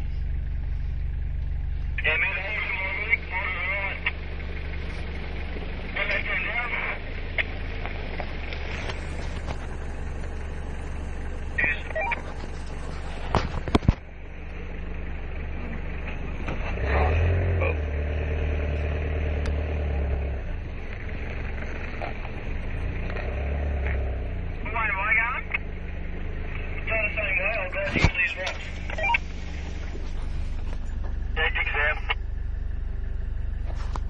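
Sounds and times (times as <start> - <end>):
engine running at low revs: 0.0 - 34.0.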